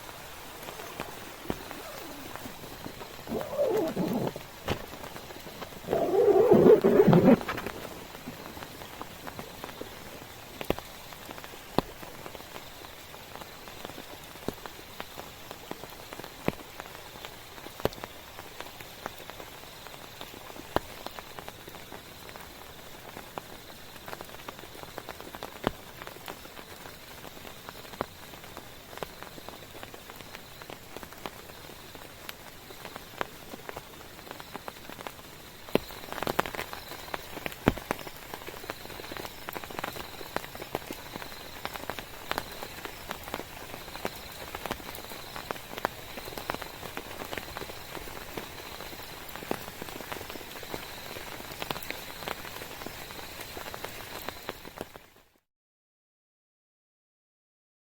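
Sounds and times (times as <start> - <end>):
raindrops hitting a surface: 0.0 - 55.2
steady rain falling: 0.0 - 55.3.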